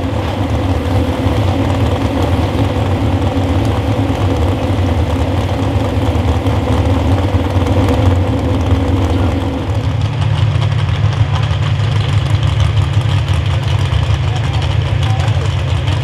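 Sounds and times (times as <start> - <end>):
deeper engine idling: 0.0 - 16.0
truck engine idling loudly: 0.0 - 16.0.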